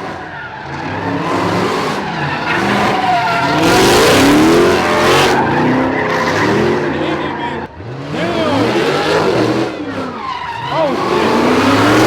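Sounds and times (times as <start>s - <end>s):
car engine revving: 0.0s - 12.0s
tyres screeching: 0.0s - 12.0s.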